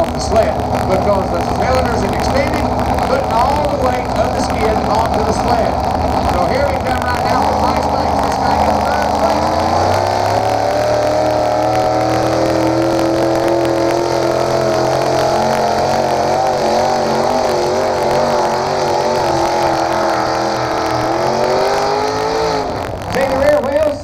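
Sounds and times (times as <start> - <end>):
tractor engine at high revs: 0.0 - 24.0.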